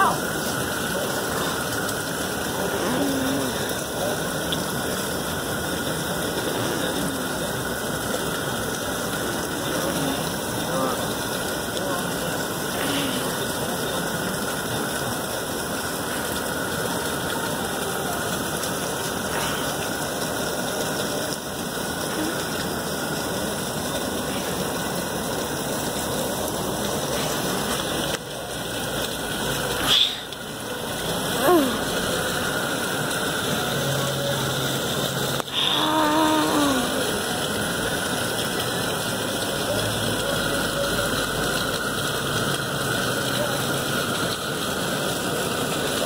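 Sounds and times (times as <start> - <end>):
propane burner running: 0.0 - 46.0.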